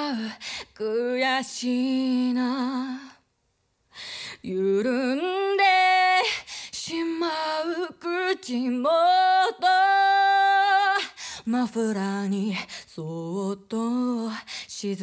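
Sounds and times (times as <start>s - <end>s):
woman singing pop ballad: 0.0s - 3.2s, 4.3s - 15.0s.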